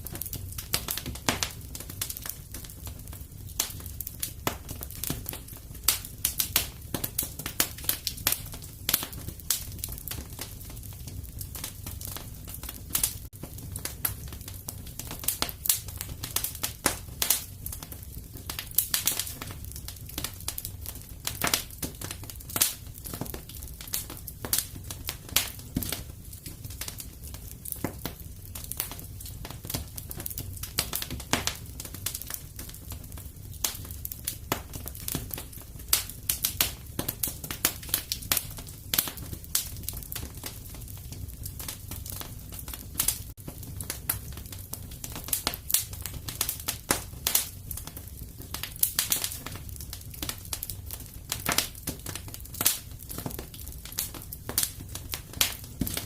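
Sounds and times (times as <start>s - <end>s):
fire crackling and popping: 0.0s - 56.0s
wood fire rumbling: 0.0s - 56.0s.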